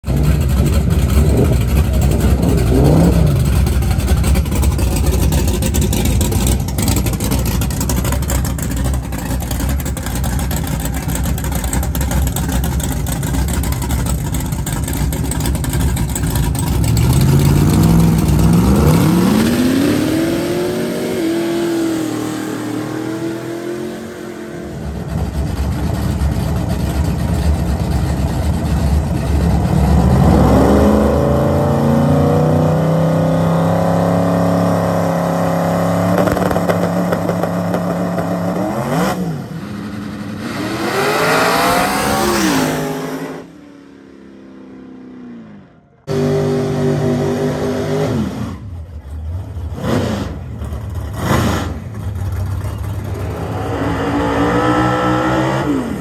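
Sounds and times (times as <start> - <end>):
race car engine revving: 0.1 - 56.0.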